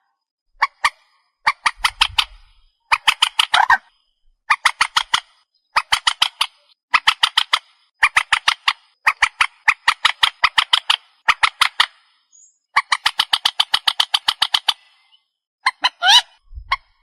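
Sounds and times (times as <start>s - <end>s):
bird call harsh clicking notes: 0.6s - 3.9s, 4.5s - 12.1s, 12.7s - 17.0s.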